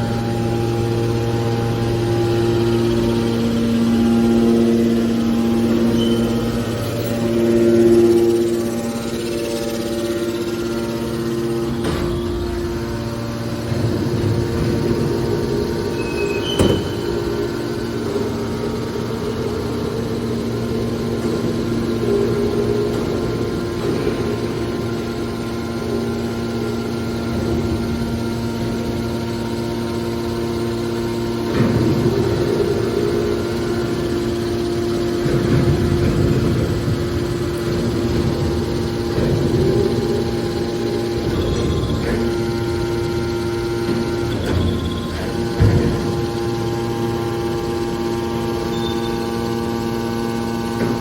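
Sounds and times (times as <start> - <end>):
rumbling: 0.0 - 50.0
baler motor humming: 0.0 - 51.0.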